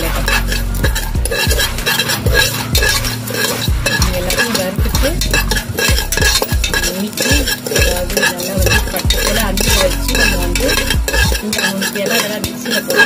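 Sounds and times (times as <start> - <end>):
spoon scraping seeds in pot: 0.0 - 13.0.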